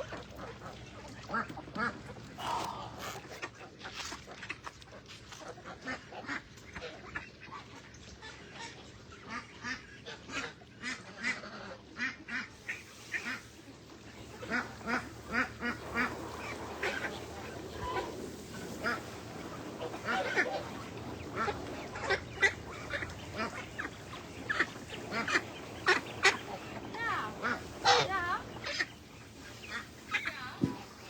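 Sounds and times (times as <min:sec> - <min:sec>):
ducks quacking: 0:00.0 - 0:31.0.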